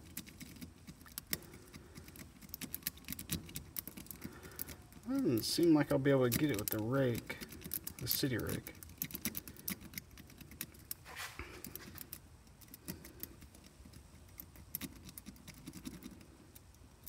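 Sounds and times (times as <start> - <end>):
lock pick clicking and scratching: 0.0 - 17.0.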